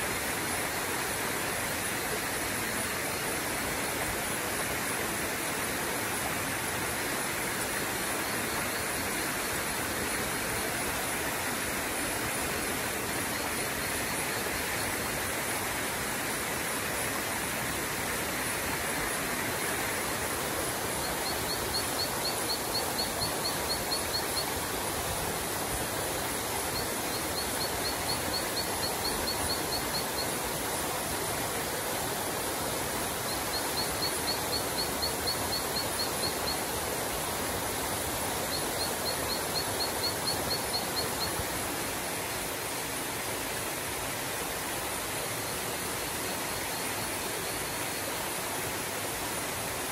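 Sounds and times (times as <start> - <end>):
insect chorus: 0.0 - 49.9
steady hiss: 0.0 - 49.9
insect rapid high ticks: 0.2 - 49.7.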